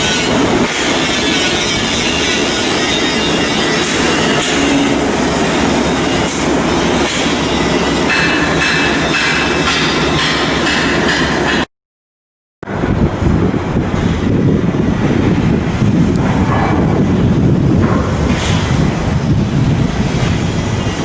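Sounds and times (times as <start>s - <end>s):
shipyard machinery noise: 0.0s - 11.7s, 12.6s - 21.0s.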